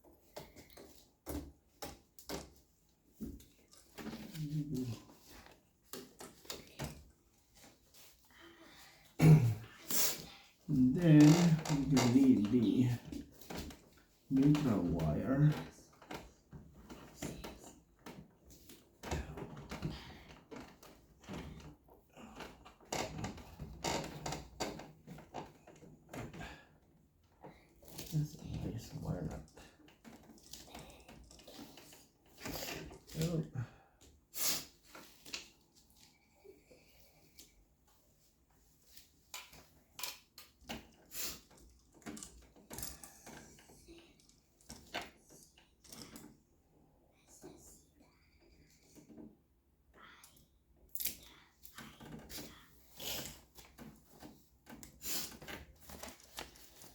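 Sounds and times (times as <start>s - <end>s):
hands working wires: 0.0s - 8.3s, 9.0s - 46.6s, 51.0s - 56.9s.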